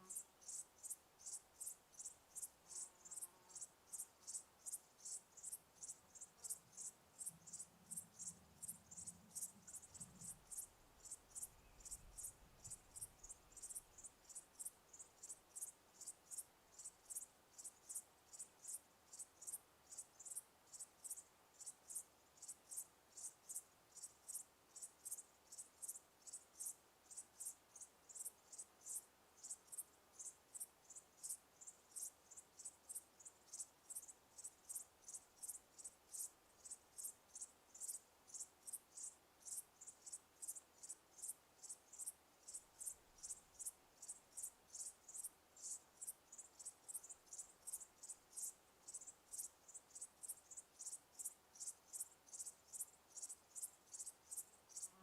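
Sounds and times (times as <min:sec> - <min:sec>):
insects chirping: 0:00.0 - 0:55.0
soft steady hiss: 0:00.0 - 0:55.0.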